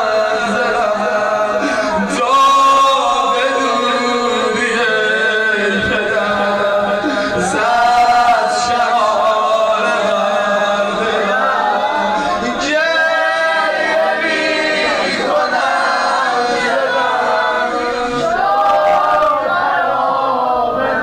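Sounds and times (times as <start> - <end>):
man chanting a lament: 0.0 - 21.0.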